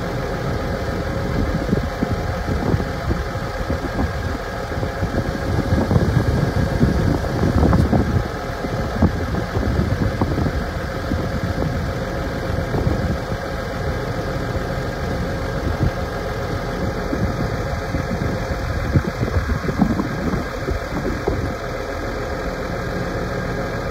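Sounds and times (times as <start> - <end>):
tractor diesel engine idling: 0.0 - 23.9.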